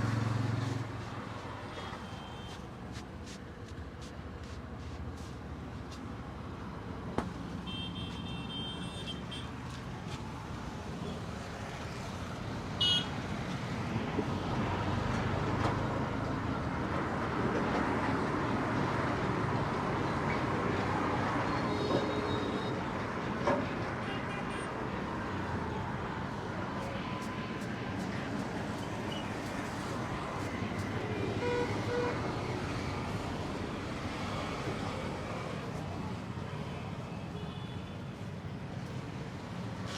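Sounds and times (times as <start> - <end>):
roadside traffic: 0.0 - 39.9.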